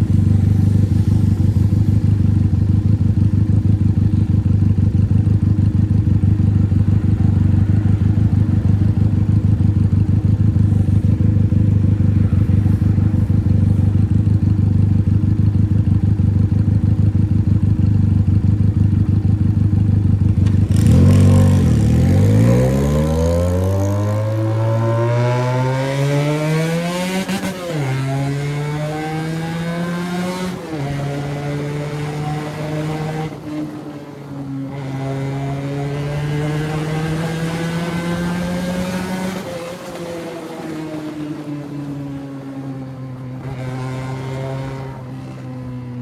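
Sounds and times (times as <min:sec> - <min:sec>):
motorcycle engine idling and revving: 0:00.0 - 0:46.0.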